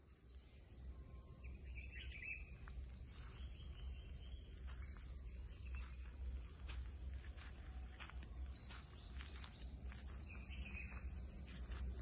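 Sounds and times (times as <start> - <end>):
steady low rumble: 0.1 - 12.0.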